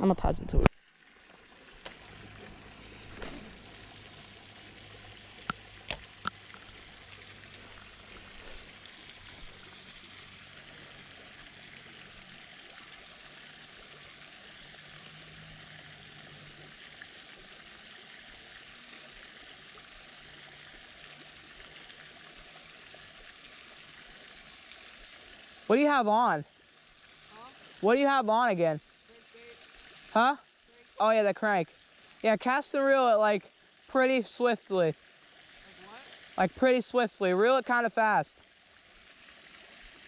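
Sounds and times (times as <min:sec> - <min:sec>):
water trickling: 0:00.0 - 0:40.0.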